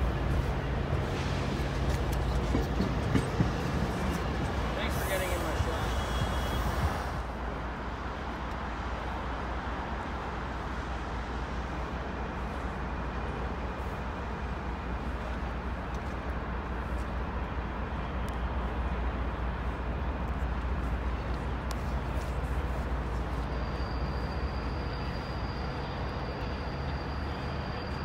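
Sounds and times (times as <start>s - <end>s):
trains rumbling: 0.0s - 28.0s.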